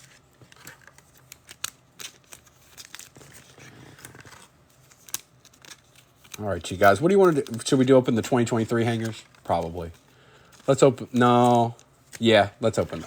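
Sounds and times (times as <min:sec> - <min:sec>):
plastic packaging rustling: 0:00.0 - 0:13.0.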